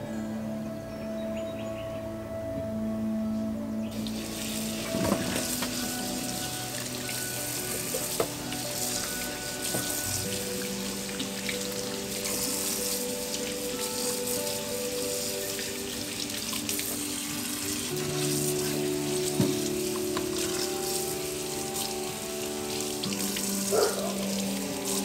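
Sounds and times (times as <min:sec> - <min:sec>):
soft background music: 0:00.0 - 0:25.0
tap water running into metal sink: 0:04.0 - 0:25.0
water splashing over meat: 0:04.0 - 0:25.0.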